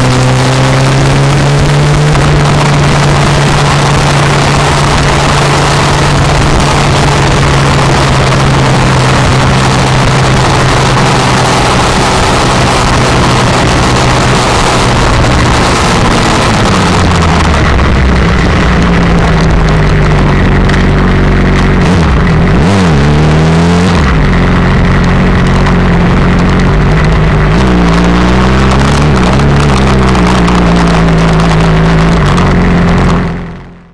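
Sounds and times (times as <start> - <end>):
wind rush on microphone: 0.0 - 33.5
motorcycle engine running: 0.0 - 33.9.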